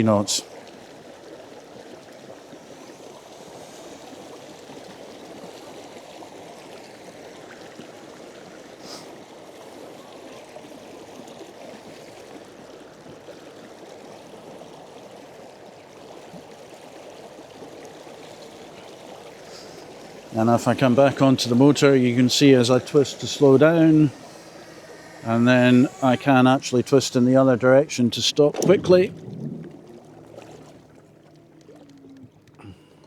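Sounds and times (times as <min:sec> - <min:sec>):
water rushing along boat hull: 0:00.0 - 0:33.0.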